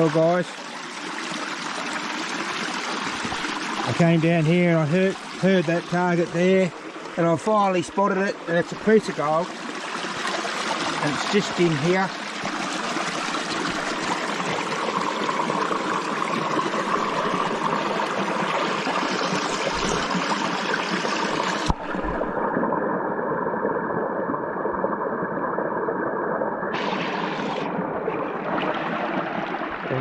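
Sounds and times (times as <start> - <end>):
small waterfall rushing: 0.0 - 22.2, 26.7 - 30.0.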